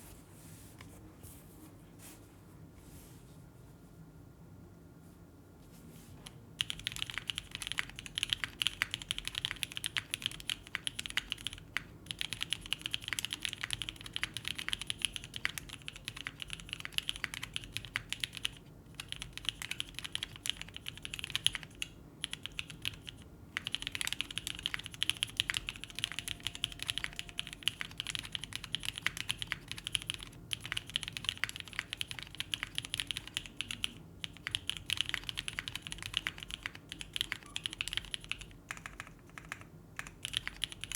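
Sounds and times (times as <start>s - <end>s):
fast mechanical keyboard typing: 6.6s - 40.9s.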